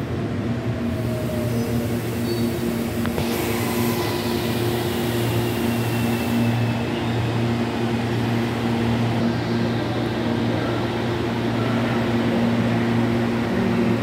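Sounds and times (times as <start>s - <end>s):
electric train falling whine: 0.0s - 14.0s.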